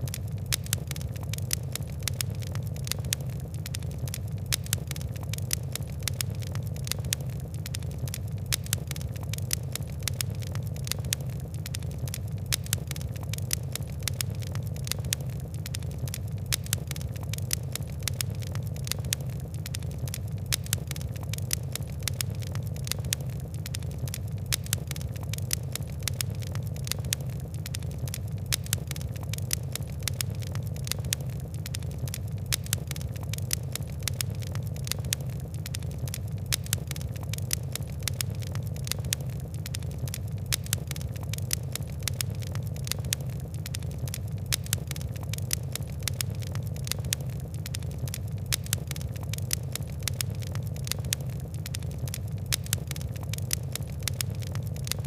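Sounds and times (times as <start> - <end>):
fire crackling: 0.0 - 55.0
low rumble of flame: 0.0 - 55.0.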